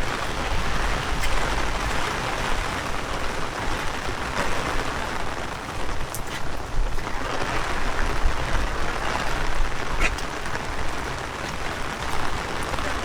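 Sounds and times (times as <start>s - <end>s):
heavy rain falling: 0.0s - 13.0s
wind buffeting microphone: 0.0s - 13.0s.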